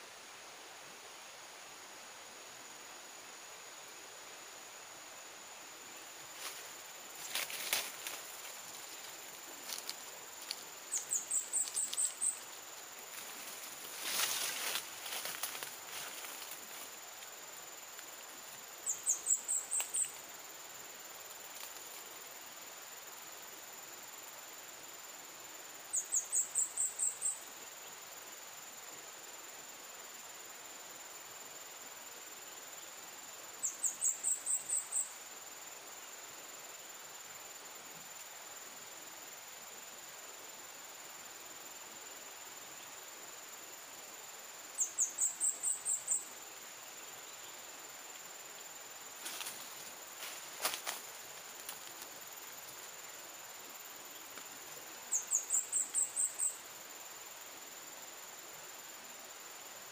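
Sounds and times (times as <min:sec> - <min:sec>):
high insect buzz: 0:00.0 - 0:59.9.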